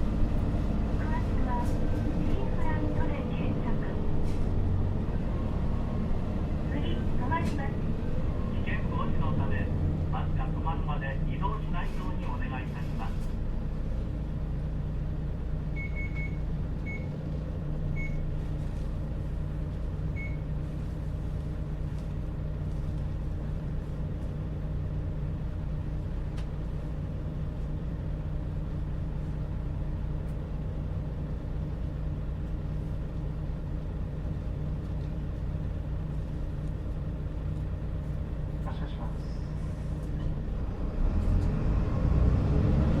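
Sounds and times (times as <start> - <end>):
bus engine drone: 0.0 - 43.0.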